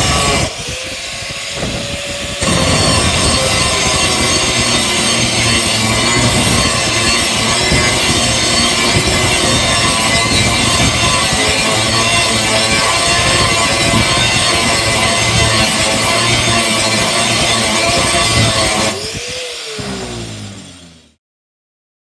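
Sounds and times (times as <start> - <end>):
angle grinder grinding steel: 0.0 - 21.2.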